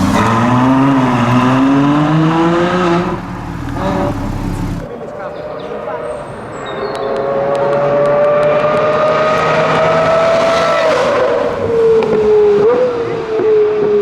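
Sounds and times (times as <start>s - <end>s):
sports car engine accelerating past: 0.0s - 14.0s.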